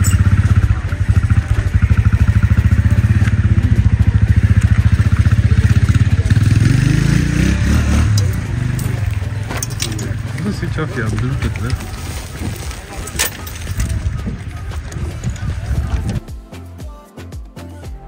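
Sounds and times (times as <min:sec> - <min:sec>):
small motorcycle engine idling: 0:00.0 - 0:16.2.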